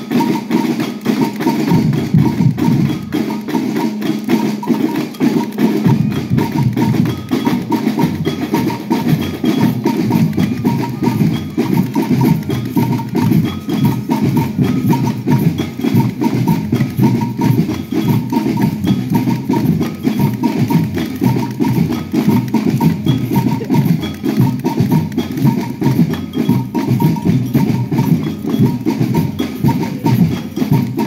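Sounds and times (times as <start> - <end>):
samba drum band playing: 0.0 - 31.0.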